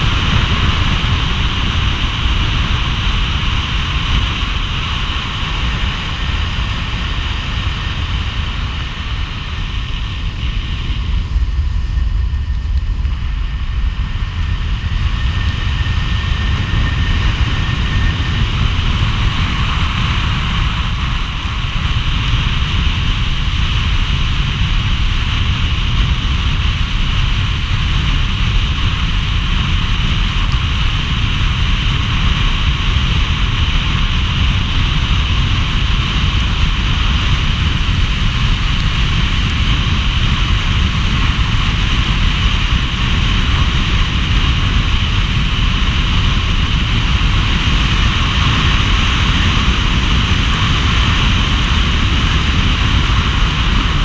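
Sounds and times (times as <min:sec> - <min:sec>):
low car rumble: 0:00.0 - 0:54.0
wind noise: 0:00.0 - 0:54.0.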